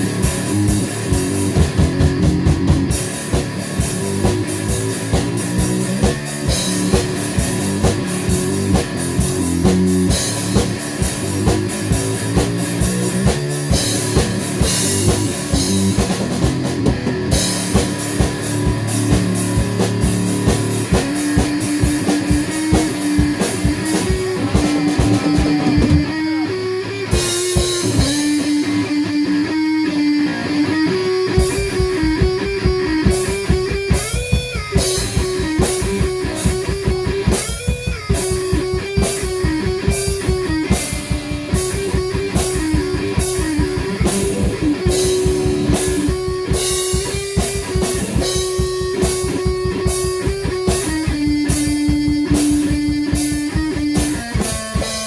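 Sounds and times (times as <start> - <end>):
distorted guitars: 0.0 - 55.0
driving drum kit: 0.0 - 55.0
heavy rock music: 0.0 - 55.0.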